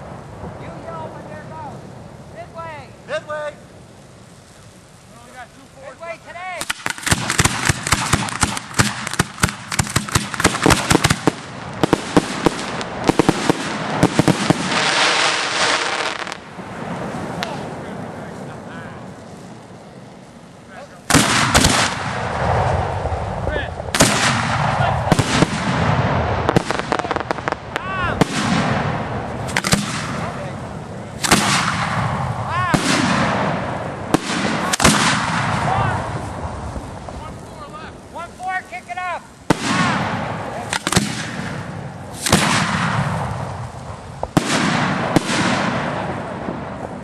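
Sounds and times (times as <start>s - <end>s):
fireworks bangs: 0.0s - 47.0s
fireworks crackling and rumbling: 0.0s - 47.0s.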